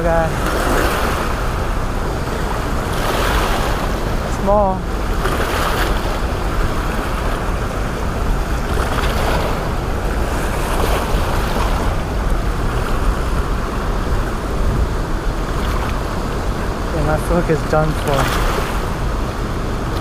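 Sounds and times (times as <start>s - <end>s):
whitewater rushing: 0.0s - 20.0s.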